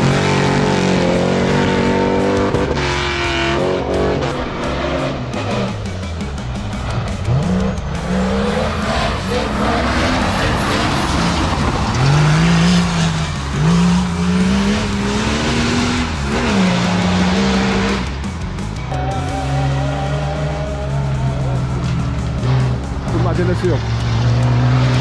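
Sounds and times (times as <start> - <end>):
off-road vehicle engine accelerating: 0.0 - 25.0.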